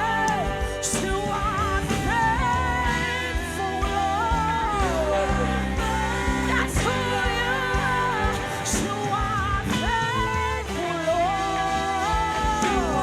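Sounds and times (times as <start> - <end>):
band playing worship music: 0.0 - 13.0
person singing: 0.0 - 13.0.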